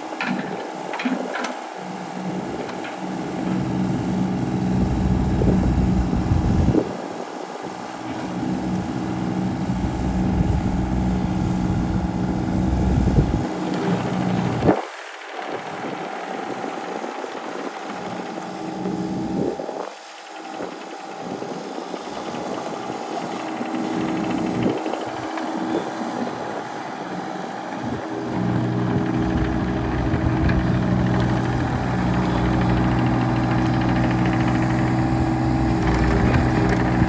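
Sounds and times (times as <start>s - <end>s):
excavator diesel engine running: 0.0s - 6.8s, 8.0s - 19.2s, 22.1s - 37.0s.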